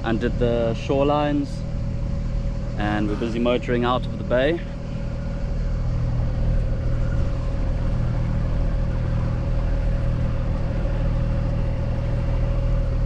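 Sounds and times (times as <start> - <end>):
boat engine running steadily: 0.0 - 13.0.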